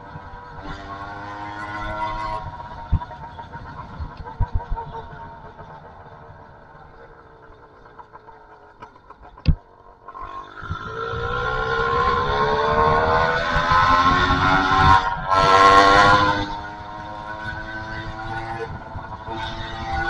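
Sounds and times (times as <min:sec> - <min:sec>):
two-stroke motorbike engine: 0:00.0 - 0:20.0.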